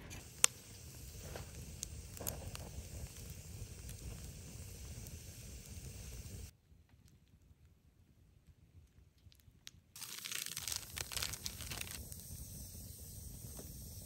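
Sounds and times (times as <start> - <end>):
campfire burning with crackling pops: 0.0 - 7.7, 8.4 - 14.0.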